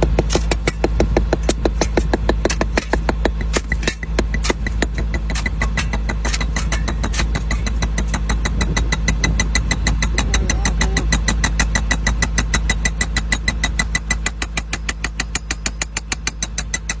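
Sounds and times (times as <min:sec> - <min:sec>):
machine engine running: 0:00.0 - 0:17.0
rapid regular clatter of knocks: 0:00.0 - 0:17.0.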